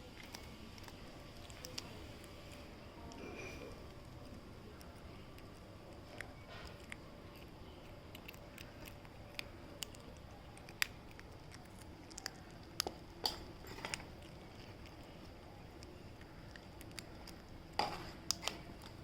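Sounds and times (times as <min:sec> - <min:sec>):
cat chewing raw fish: 0:00.0 - 0:19.0.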